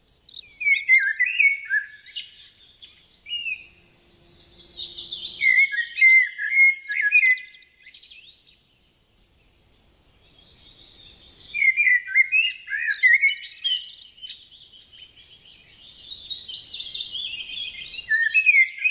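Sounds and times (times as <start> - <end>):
birdsong chirps and warbles: 0.0 - 18.9.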